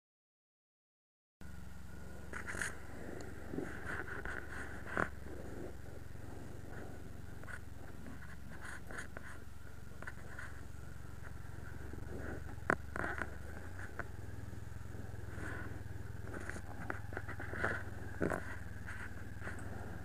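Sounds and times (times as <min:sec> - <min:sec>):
vehicle engine idling: 0:01.4 - 0:20.0.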